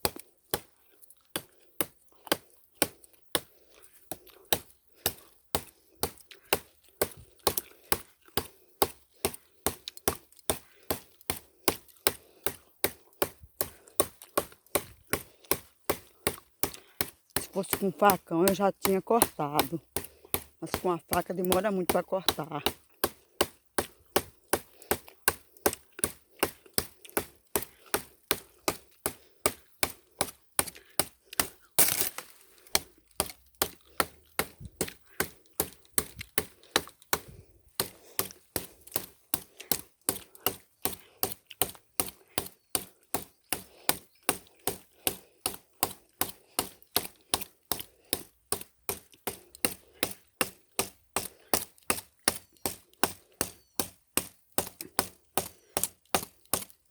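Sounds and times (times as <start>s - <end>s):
knife hacking woody stalk: 0.0s - 56.8s.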